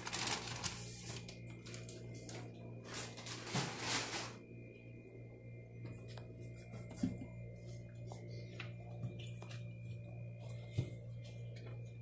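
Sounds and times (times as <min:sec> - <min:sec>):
steady hum with high whine: 0:00.0 - 0:12.0.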